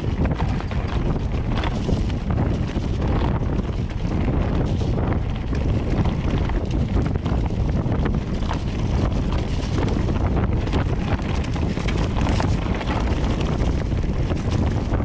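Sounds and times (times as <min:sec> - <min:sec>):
bike knocks and rattles: 0:00.0 - 0:15.0
steady low rumble: 0:00.0 - 0:15.0
wind rushing over microphone: 0:00.0 - 0:15.0.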